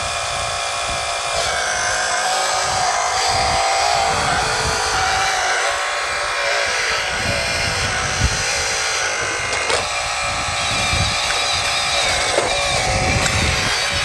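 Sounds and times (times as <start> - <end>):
hydraulic pump and motors whining: 0.0 - 14.0.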